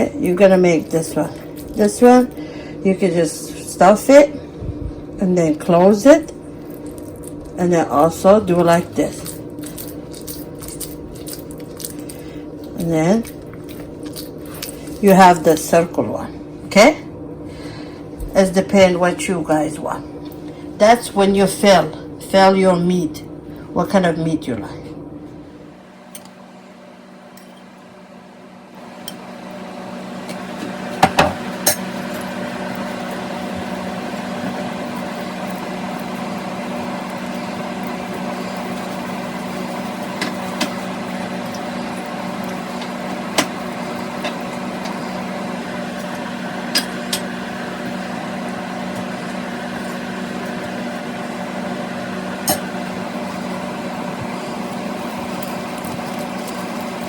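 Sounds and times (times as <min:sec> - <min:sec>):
electric motor hum: 0:00.0 - 0:57.0.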